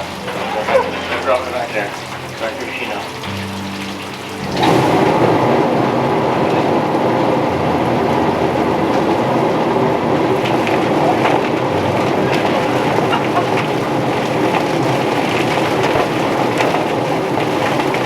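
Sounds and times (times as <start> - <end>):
drum plucker motor rattling churn: 0.0 - 18.0.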